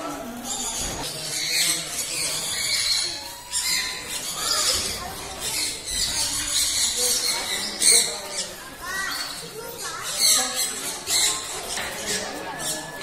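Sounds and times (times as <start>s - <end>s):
parrots and birds calling: 0.0s - 13.0s.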